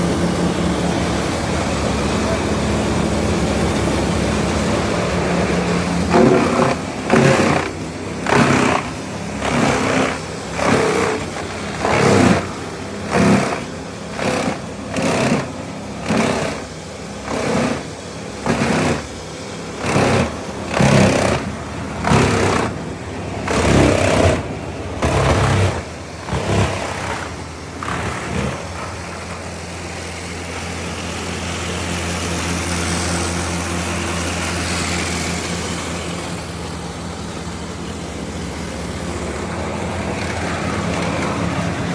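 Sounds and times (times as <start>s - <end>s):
brush chipper running: 0.0s - 41.9s.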